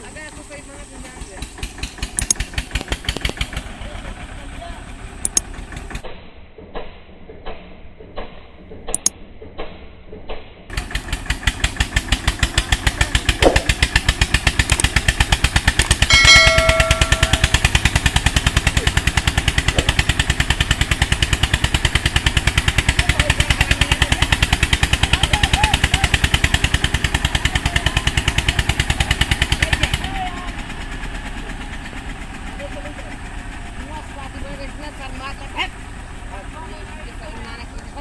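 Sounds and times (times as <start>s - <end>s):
tractor diesel engine running: 0.0s - 6.1s, 10.7s - 38.0s.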